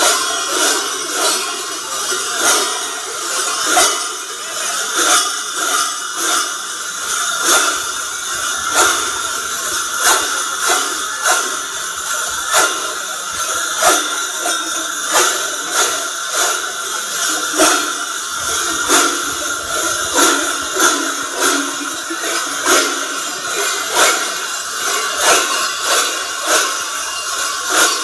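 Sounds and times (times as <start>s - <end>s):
clash of bells together: 0.0s - 28.0s
cowbells clanging: 0.0s - 28.0s.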